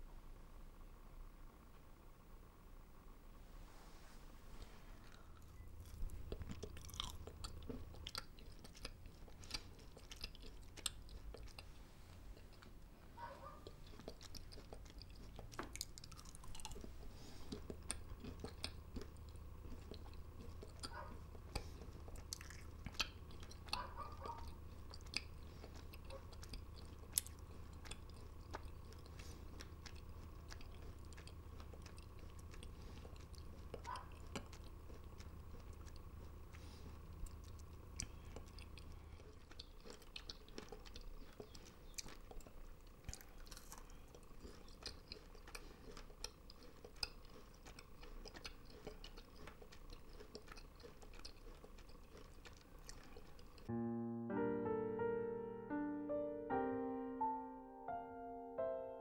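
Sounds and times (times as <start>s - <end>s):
low steady hum: 0.0s - 59.0s
chewing crunches: 4.6s - 53.7s.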